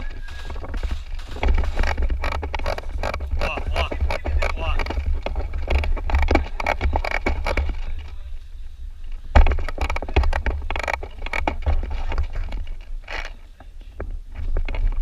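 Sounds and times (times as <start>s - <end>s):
low rumble: 0.0s - 13.1s
rustling and scraping: 0.0s - 15.0s.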